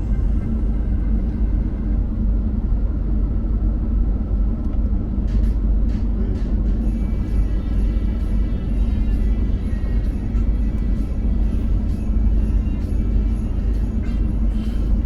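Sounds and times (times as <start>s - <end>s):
vehicle cabin road and engine rumble: 0.0s - 15.0s.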